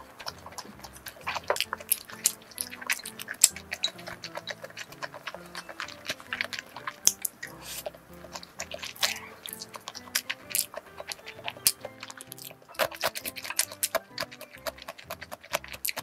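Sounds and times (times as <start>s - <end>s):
mouth clicks: 0.0s - 16.0s
soft background music: 0.0s - 16.0s
wet chewing and slurping noodles: 0.0s - 16.0s.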